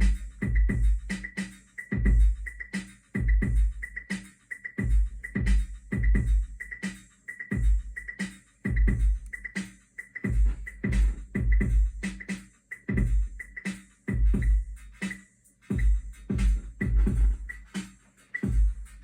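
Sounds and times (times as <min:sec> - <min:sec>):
electronic drum pattern: 0:00.0 - 0:19.0.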